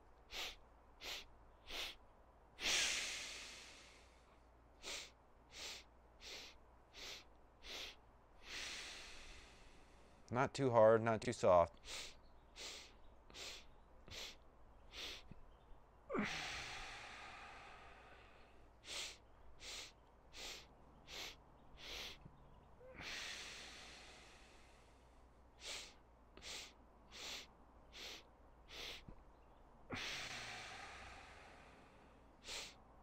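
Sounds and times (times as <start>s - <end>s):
man breathing in and out: 0.1s - 10.3s, 11.7s - 33.0s.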